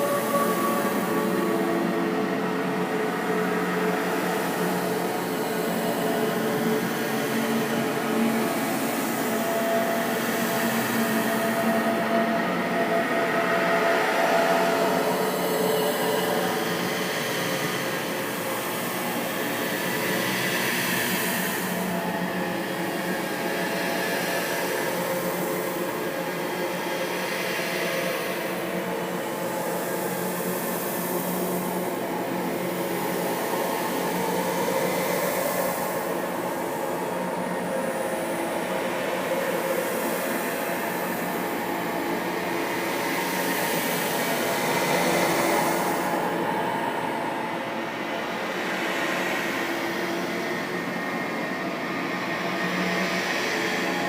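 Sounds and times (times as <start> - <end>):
eerie rushing drone: 0.0 - 54.0.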